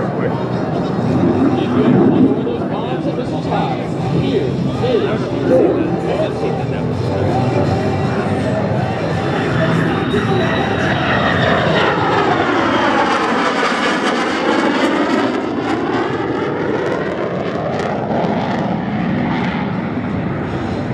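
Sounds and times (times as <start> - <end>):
jet passing overhead: 0.0 - 20.9.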